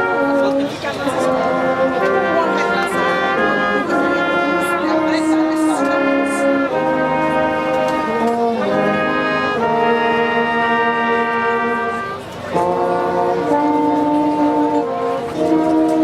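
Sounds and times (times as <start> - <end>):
brass ensemble sustained chords: 0.0 - 16.0.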